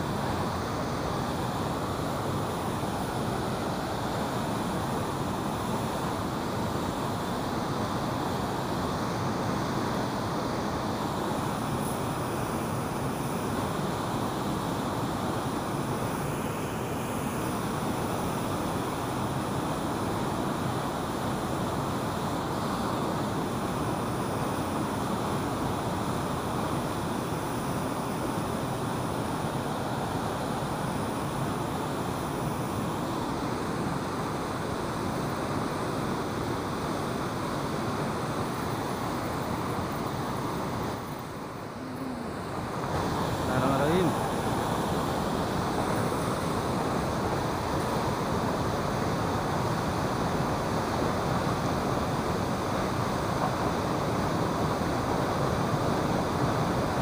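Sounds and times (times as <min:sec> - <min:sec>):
river water rushing through weir: 0:00.0 - 0:57.0.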